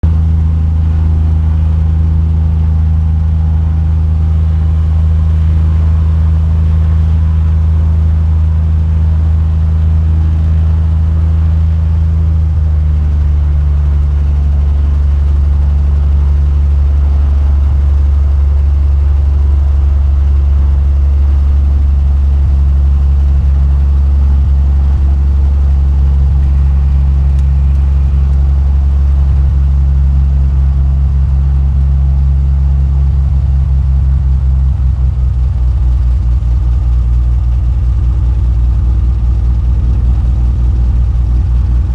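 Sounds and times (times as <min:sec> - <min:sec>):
light aircraft engine droning: 0:00.0 - 0:41.9.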